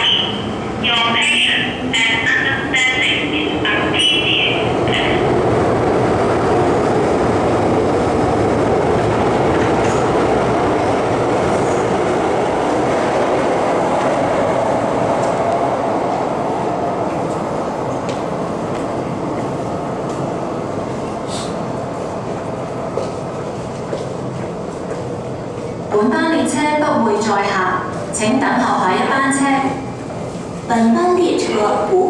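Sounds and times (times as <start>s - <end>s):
underground train rushing past: 0.0s - 32.0s.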